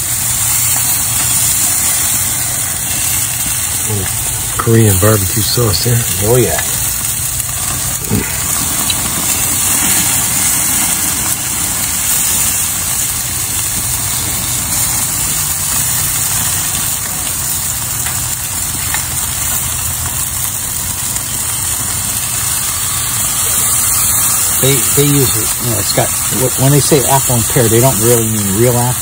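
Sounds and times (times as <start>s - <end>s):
chicken sizzling in sauce: 0.0s - 29.0s
constant low rumble: 0.0s - 29.0s.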